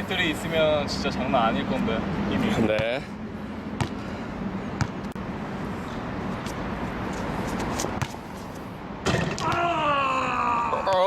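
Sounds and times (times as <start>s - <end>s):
distant traffic: 0.0s - 11.0s.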